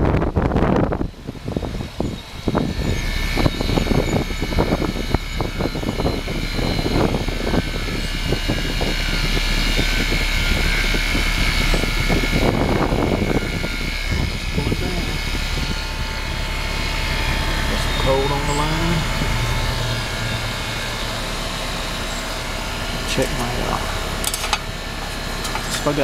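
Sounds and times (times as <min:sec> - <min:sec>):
heat pump compressor hum and fan: 0:00.0 - 0:26.0
high steady whine: 0:00.0 - 0:26.0.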